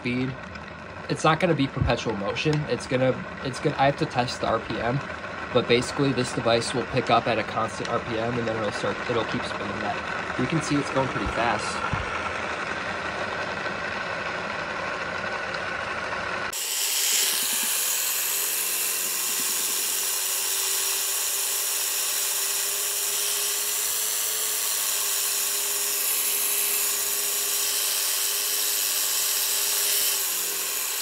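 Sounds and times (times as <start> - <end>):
motor whirring and humming: 0.0 - 31.0.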